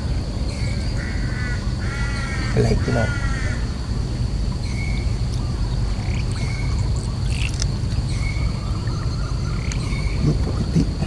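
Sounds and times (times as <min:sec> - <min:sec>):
high-pitched insect drone: 0:00.0 - 0:11.0
steady low rumble: 0:00.0 - 0:11.0.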